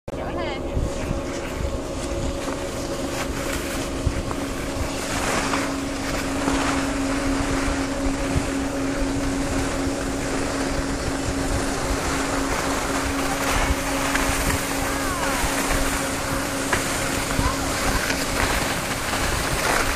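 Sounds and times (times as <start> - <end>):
mechanical hum: 0.1 - 19.9
wind buffeting the microphone: 0.2 - 19.9.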